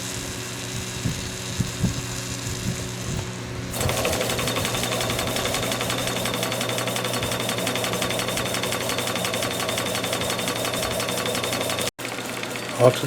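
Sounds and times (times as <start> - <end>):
steam engine clatter: 0.9 - 13.0.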